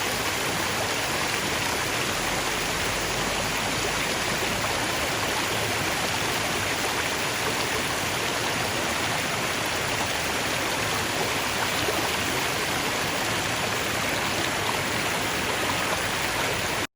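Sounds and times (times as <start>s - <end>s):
stream running over stones: 0.0s - 16.9s.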